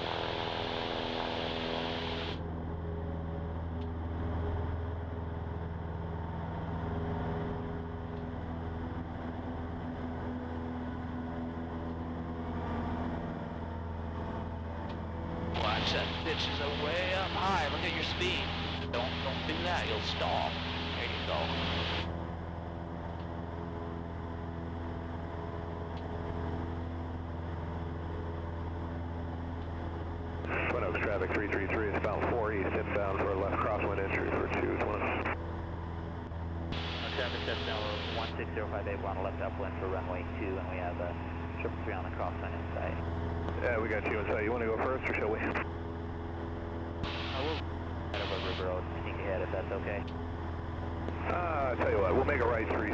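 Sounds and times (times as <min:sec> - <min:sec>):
aircraft engine and propeller droning: 0:00.0 - 0:52.9.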